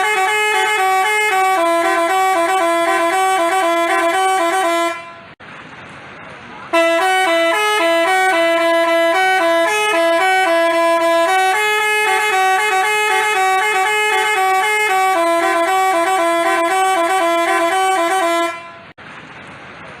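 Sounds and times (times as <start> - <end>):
multi-tone bus horn tune: 0.0 - 5.4, 6.7 - 19.0.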